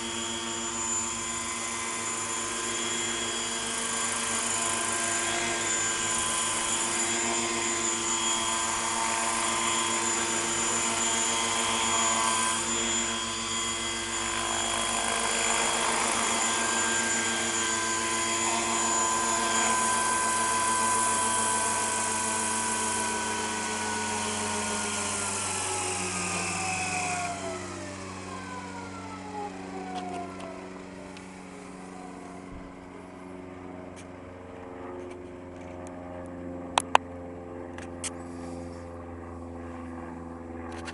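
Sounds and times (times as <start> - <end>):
model helicopter rotors: 0.0 - 40.9.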